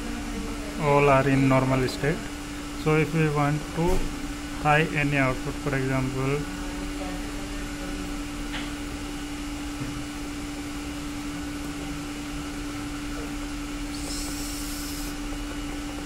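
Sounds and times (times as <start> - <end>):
equipment and ventilation hum: 0.0 - 16.0.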